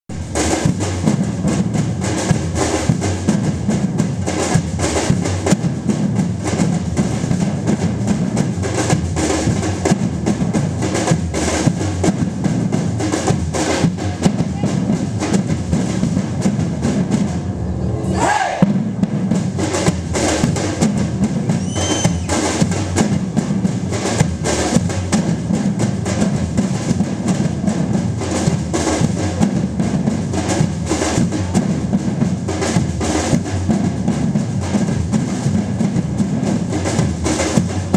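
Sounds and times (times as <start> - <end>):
drums and hand percussion: 0.0 - 37.9.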